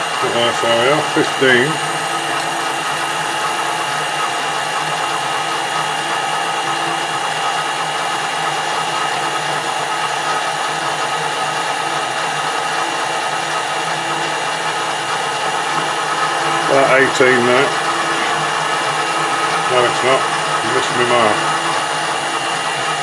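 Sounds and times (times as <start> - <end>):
metal lathe humming: 0.0 - 23.0.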